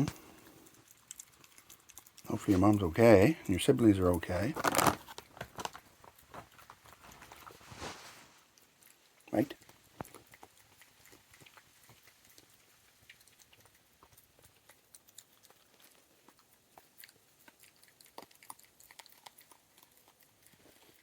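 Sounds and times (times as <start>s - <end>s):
raccoon chewing peanuts: 0.0s - 21.0s.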